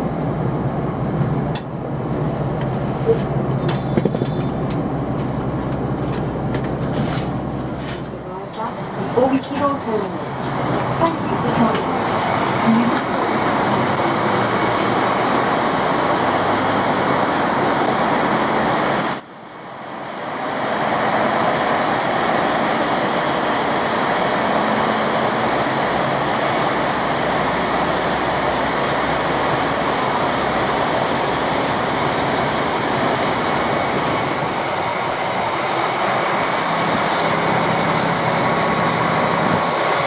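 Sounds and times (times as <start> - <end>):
diesel railcar running past: 0.0 - 40.0
diesel train rumble with hiss: 0.0 - 40.0.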